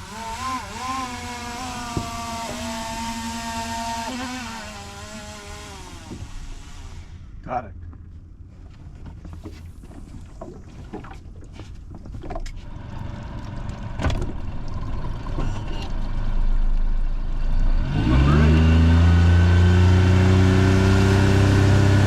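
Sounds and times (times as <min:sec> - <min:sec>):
outboard motor idling: 0:00.0 - 0:08.4, 0:09.1 - 0:17.5, 0:19.8 - 0:22.0.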